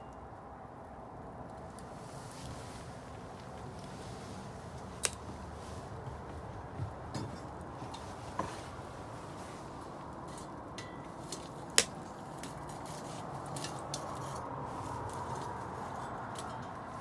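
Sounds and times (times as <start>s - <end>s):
fire crackling and popping: 1.2s - 17.0s
bonfire rushing: 1.8s - 17.0s.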